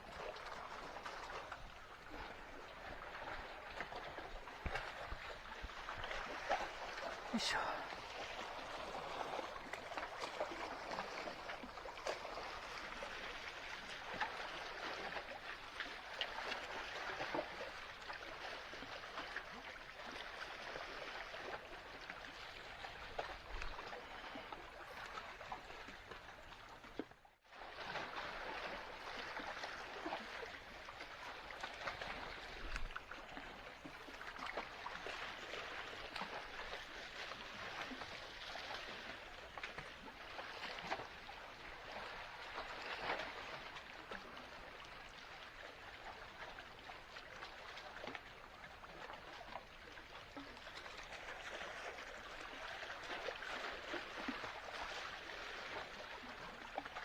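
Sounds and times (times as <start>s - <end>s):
sea water lapping on shore: 0.0s - 57.0s.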